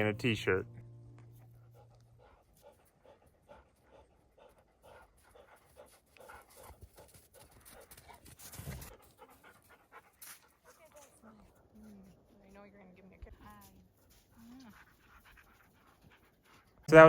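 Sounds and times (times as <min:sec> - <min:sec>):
dog panting: 0:01.5 - 0:12.3, 0:13.9 - 0:16.9.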